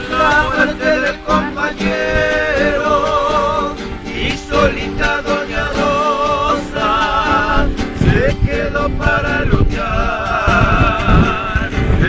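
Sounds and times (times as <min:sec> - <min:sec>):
acoustic guitars strummed: 0:00.0 - 0:12.0
man singing: 0:00.0 - 0:12.0.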